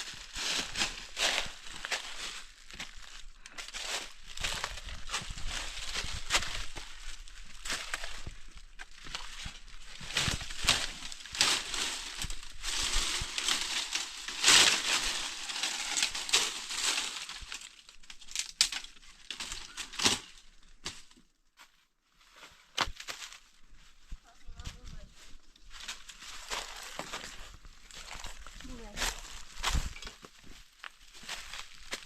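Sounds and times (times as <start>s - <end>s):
crunching and rustling: 0.0s - 21.2s, 22.3s - 32.0s.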